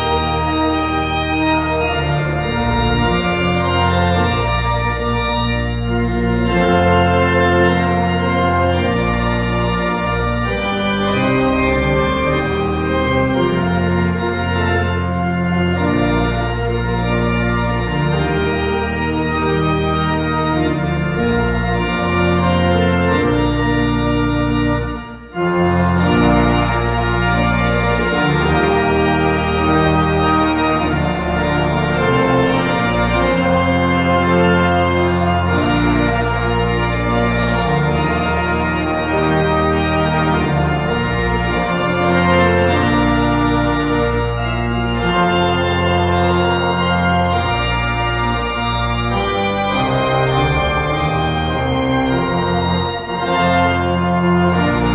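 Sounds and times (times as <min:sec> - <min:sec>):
organ playing hymn chords: 0:00.0 - 0:54.9.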